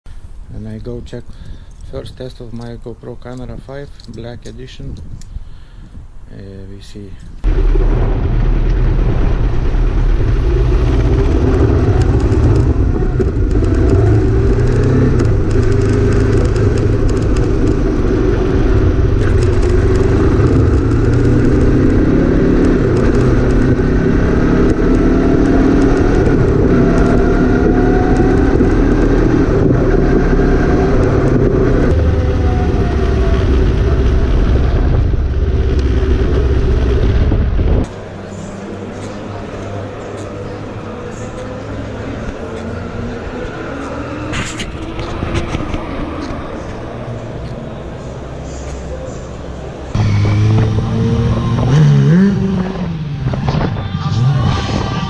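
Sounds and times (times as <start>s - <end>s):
motorcycle engines running: 7.5s - 55.0s.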